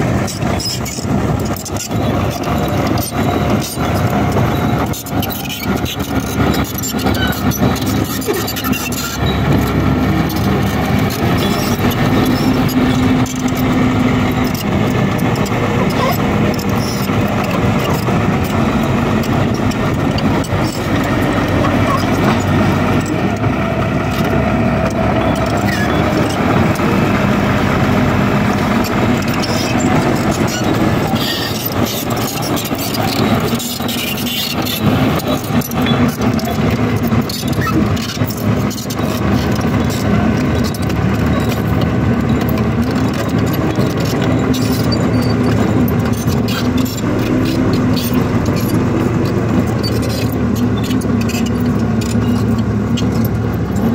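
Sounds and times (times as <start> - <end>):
heavy machine engine running: 0.0 - 53.9.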